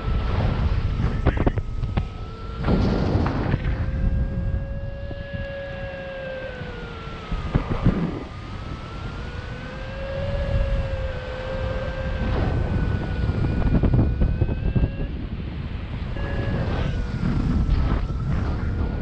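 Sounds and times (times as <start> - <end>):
electronic variometer tone: 0.0 - 19.0
wind buffeting microphone: 0.0 - 19.0.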